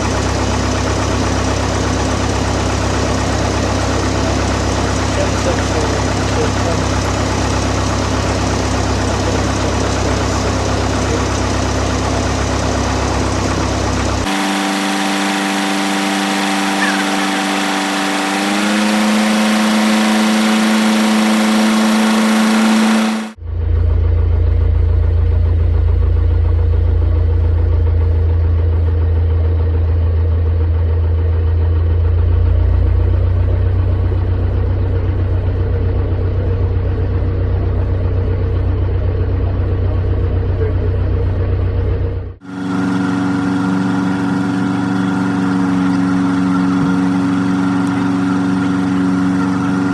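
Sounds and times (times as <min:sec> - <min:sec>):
small aircraft engine and propeller: 0:00.0 - 0:49.9.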